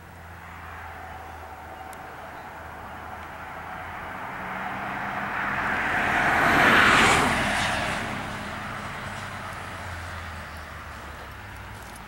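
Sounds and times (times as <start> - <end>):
car driving past: 0.0 - 11.8.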